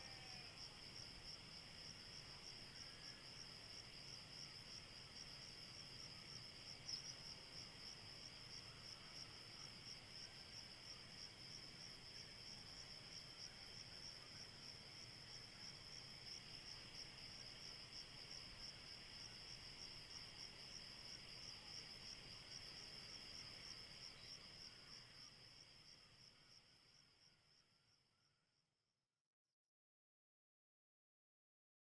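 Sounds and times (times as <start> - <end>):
crickets chirping: 0.0 - 28.4.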